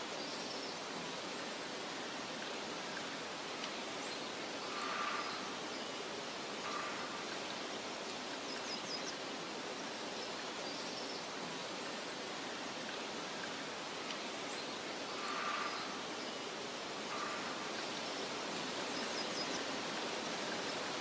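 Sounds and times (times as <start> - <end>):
hissing meadow ambience: 0.0 - 21.0.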